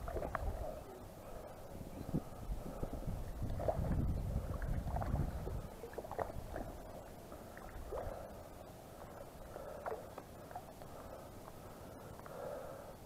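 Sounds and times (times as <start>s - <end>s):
low rumbling wind: 0.0s - 13.0s.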